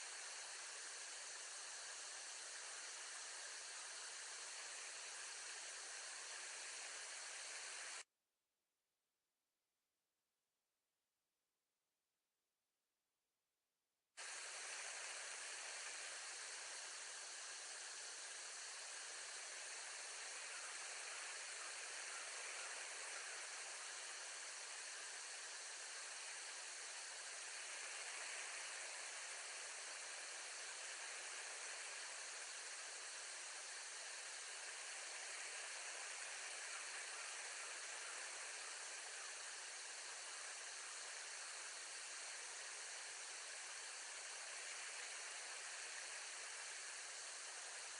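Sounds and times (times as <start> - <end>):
steady background hiss: 0.0 - 8.0, 14.2 - 47.9.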